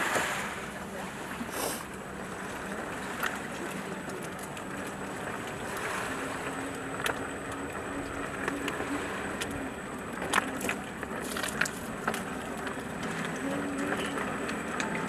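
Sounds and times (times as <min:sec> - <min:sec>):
faint low engine hum: 0:00.0 - 0:15.0
wash of sea noise: 0:00.0 - 0:15.0.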